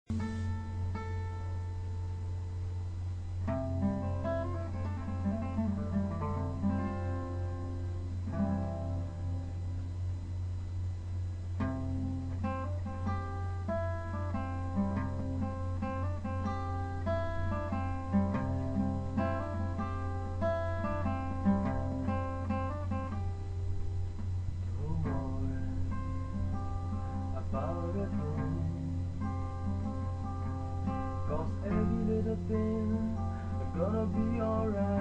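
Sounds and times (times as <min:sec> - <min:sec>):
acoustic guitar playing: 0:00.1 - 0:35.0
steady low hum: 0:00.1 - 0:35.0.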